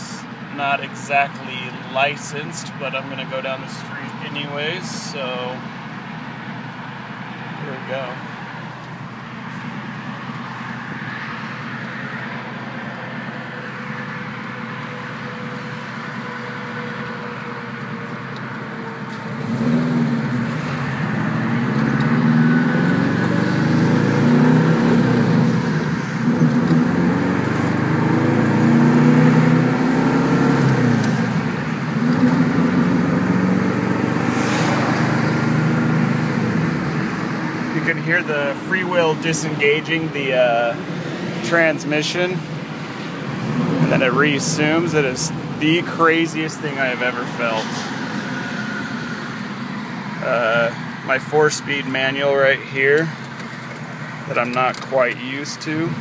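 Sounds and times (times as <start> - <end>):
car engine from inside cabin: 0.0 - 56.0.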